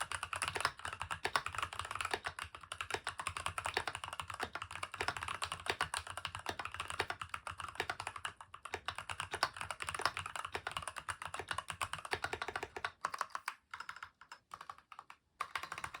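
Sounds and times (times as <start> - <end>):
mechanical keyboard typing: 0.0 - 16.0.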